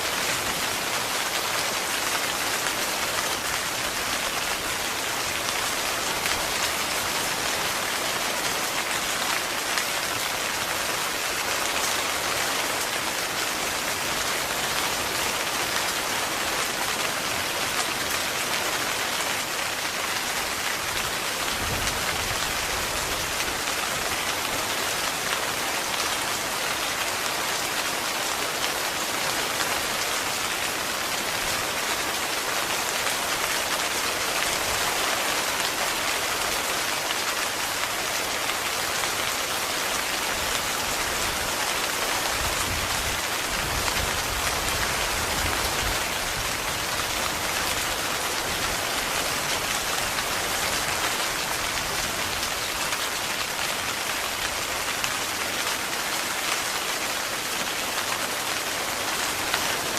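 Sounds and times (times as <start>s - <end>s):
heavy rain on a tent: 0.0s - 59.9s.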